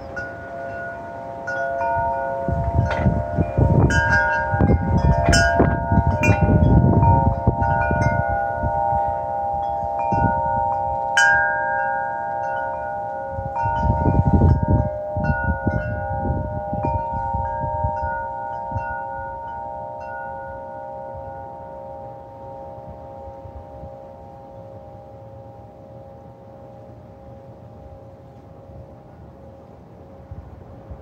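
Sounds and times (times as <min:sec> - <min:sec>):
metal wind chimes ringing: 0:00.0 - 0:30.5
gusting wind: 0:00.0 - 0:31.0.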